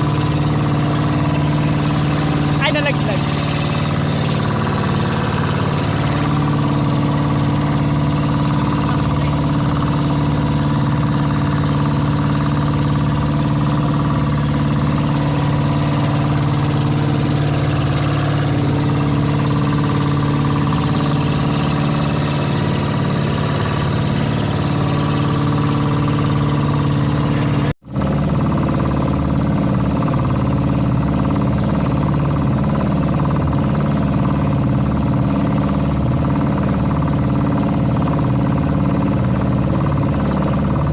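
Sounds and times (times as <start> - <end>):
small boat engine running: 0.0 - 40.9.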